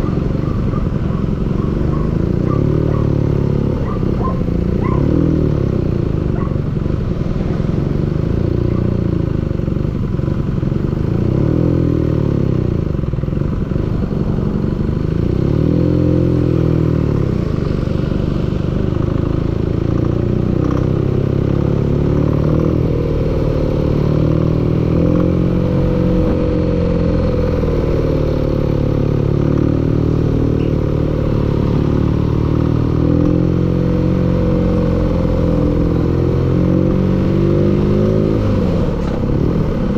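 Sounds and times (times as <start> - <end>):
engine running with clattering knock: 0.0 - 39.9.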